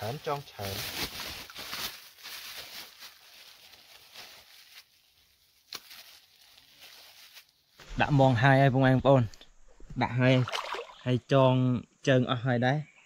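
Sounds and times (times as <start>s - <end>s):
faint rustling and handling noise: 0.0s - 10.9s.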